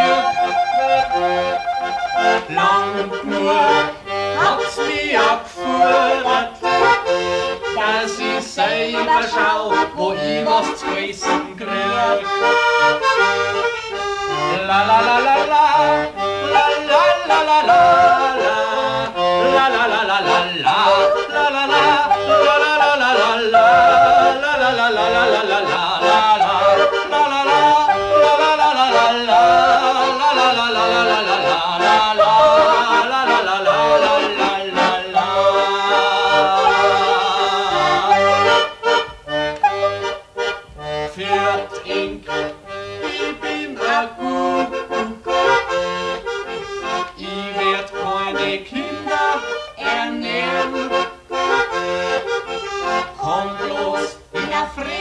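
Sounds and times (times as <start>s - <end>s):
folk-style instrumental music: 0.0s - 55.0s.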